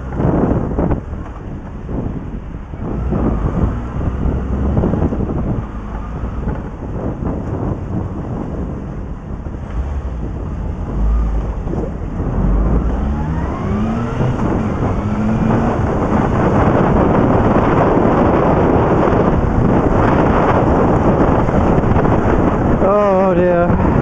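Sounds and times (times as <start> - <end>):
motorcycle engine accelerating: 0.0 - 24.0
wind noise rushing: 0.0 - 24.0.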